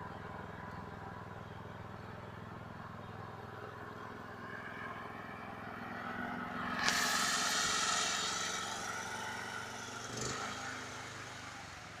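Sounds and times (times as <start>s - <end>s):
all-terrain vehicle engine running: 0.0s - 12.0s.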